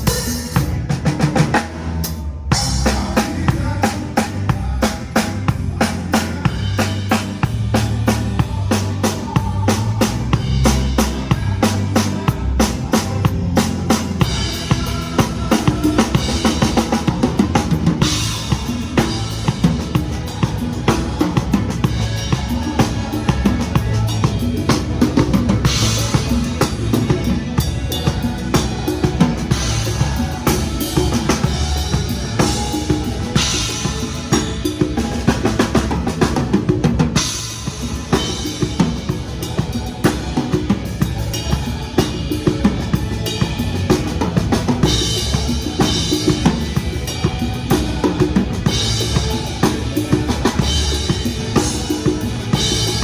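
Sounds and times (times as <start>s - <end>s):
backing track music: 0.0s - 53.0s
drum kit groove: 0.0s - 53.0s.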